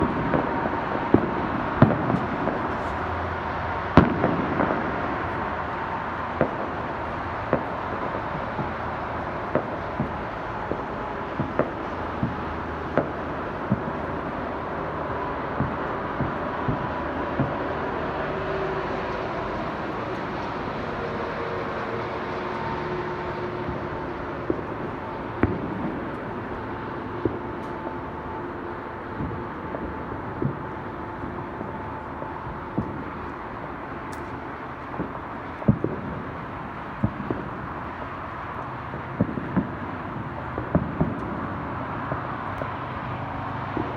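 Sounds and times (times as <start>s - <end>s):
fireworks bangs: 0.0s - 43.9s
outdoor rumble: 0.0s - 43.9s
steady background rush: 0.0s - 43.9s.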